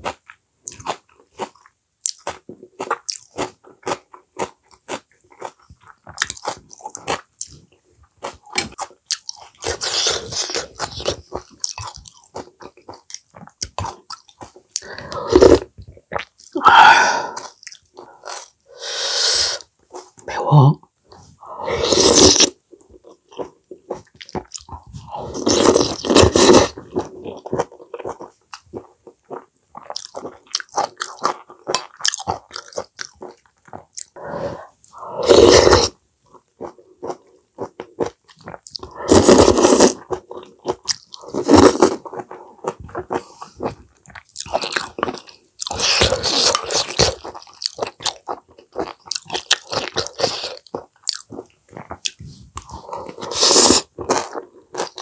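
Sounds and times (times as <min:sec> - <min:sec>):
wet chewing: 0:00.0 - 0:18.6, 0:21.8 - 0:55.0.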